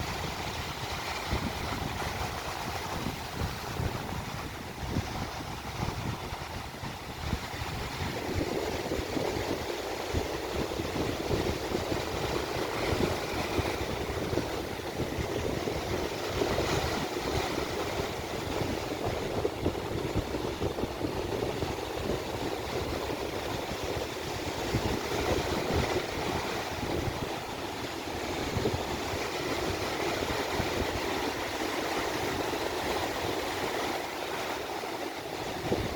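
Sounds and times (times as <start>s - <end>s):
sea waves washing onto beach: 0.0s - 35.9s.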